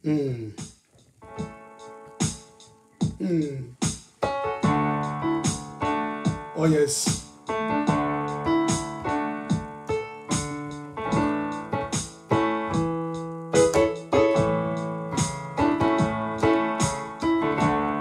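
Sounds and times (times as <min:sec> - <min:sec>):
slow piano chords: 0:01.2 - 0:03.2, 0:04.2 - 0:18.0.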